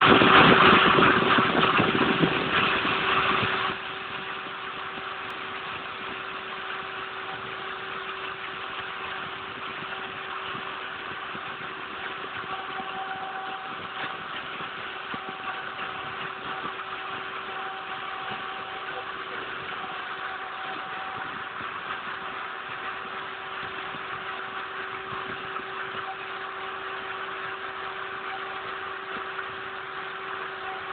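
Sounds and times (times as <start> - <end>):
machine running with harsh noise: 0.0 - 30.9
machine humming with held tone: 2.8 - 30.9.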